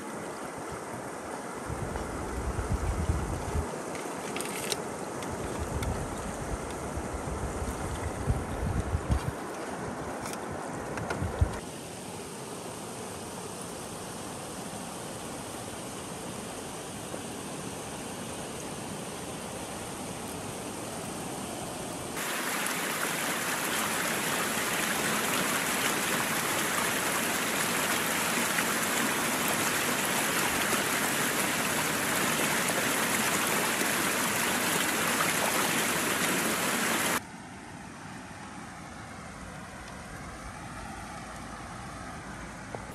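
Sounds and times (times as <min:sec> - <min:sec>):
steady rushing hiss: 0:00.0 - 0:37.2.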